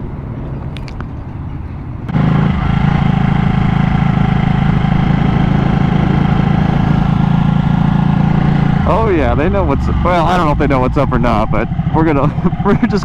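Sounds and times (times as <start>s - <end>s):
motorcycle engine running: 1.9s - 13.0s.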